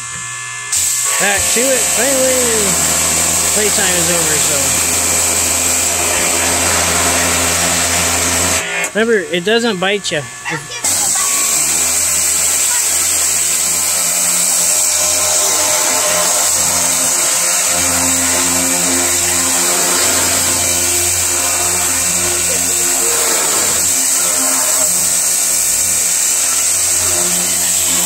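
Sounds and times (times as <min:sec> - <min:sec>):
pressure washer motor humming: 0:00.0 - 0:28.0
water jet hissing on metal and wood: 0:00.7 - 0:09.2, 0:10.6 - 0:28.0.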